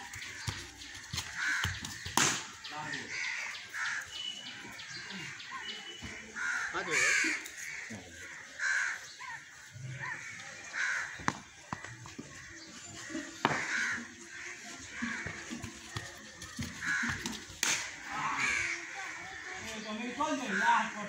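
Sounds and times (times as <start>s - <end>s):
bird calls: 0.0s - 21.0s.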